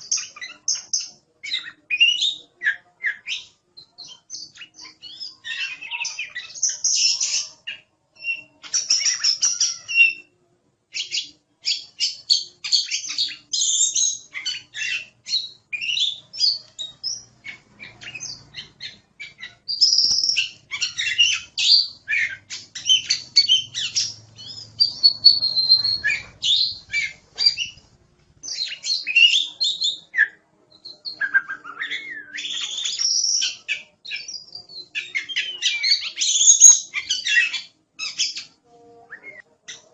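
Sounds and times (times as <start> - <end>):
songbird singing whistles and trills: 0.0 - 10.3, 10.9 - 27.8, 28.4 - 39.9.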